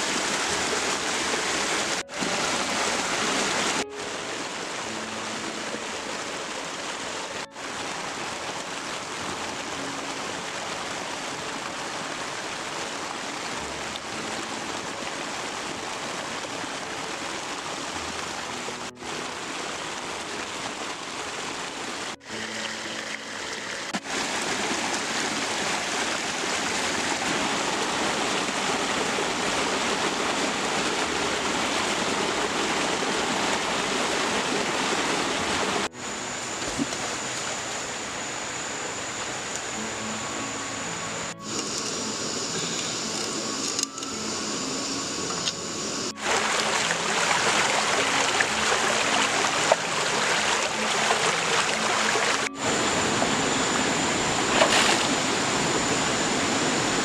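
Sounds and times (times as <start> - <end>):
stream running water: 0.0 - 57.0.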